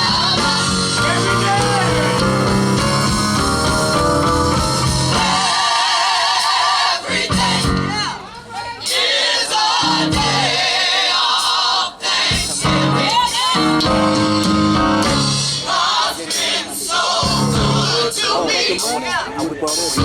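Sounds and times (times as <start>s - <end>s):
band accompaniment: 0.0s - 20.0s
choir singing gospel: 0.0s - 20.0s.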